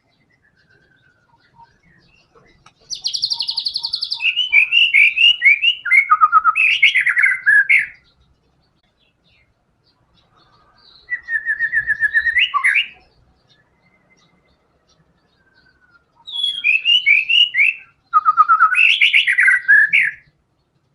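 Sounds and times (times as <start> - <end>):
bird singing: 0.0 - 20.9.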